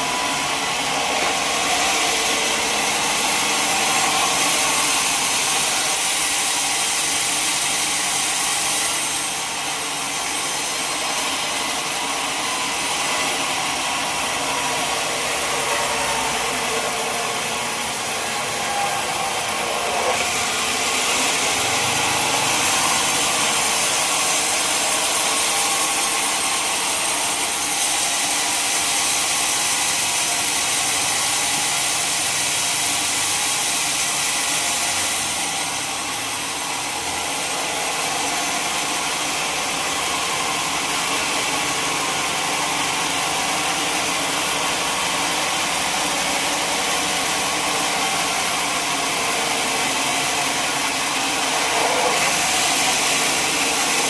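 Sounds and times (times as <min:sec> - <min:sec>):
saw cutting through log: 0:00.0 - 0:54.0.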